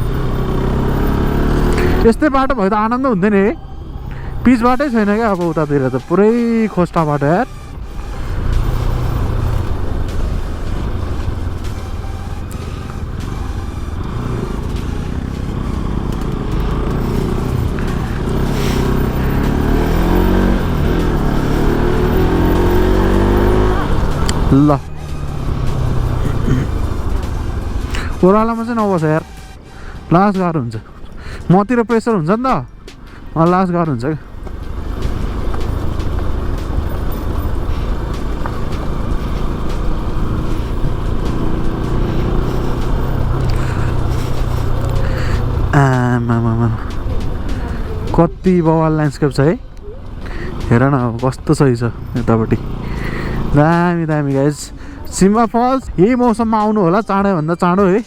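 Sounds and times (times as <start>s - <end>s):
motorcycle engine revving: 0.0s - 58.0s
riding noise: 0.0s - 58.0s.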